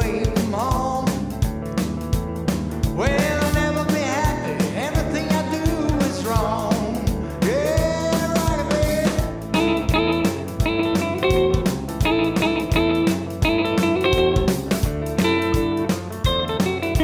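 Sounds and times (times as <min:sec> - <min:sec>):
rock music: 0:00.0 - 0:17.0
steady drum beat: 0:00.0 - 0:17.0
sliding bending melody lines: 0:00.1 - 0:17.0.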